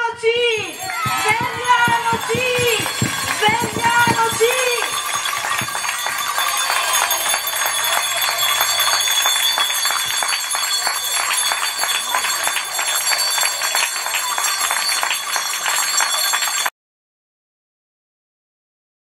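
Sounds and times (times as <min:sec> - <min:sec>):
voices: 0:00.0 - 0:16.4
crowd clapping: 0:00.6 - 0:16.7.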